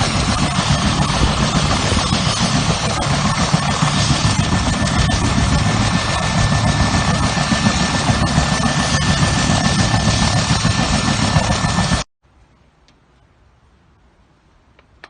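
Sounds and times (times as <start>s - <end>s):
helicopter rotor chop: 0.0s - 12.1s
high turbine engine whine: 0.0s - 12.1s.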